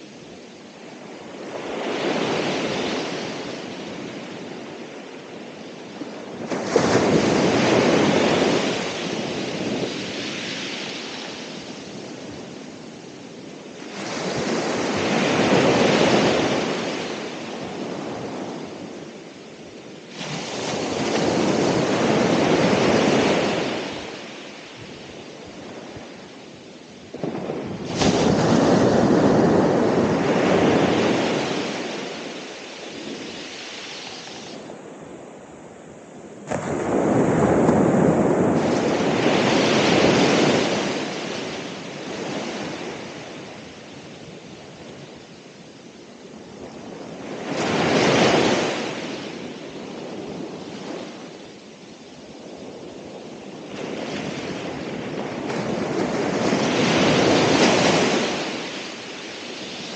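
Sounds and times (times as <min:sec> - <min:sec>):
ocean waves crashing: 0:00.0 - 0:51.9, 0:52.9 - 0:59.9.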